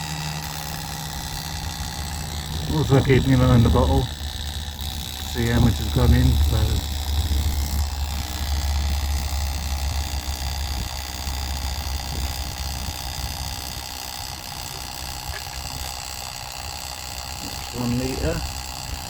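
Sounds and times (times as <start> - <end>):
oil transfer pump humming and whining: 0.0 - 19.0.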